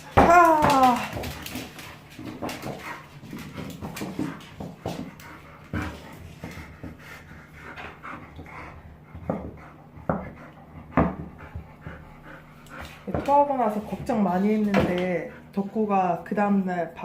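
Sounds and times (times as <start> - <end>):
dog panting and snorting: 0.8 - 16.1.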